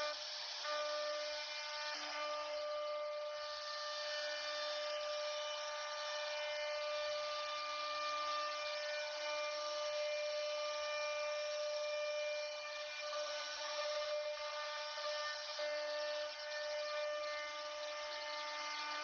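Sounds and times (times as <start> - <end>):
hiss of wood cutting: 0.0 - 19.0
router spindle whine: 0.0 - 19.0.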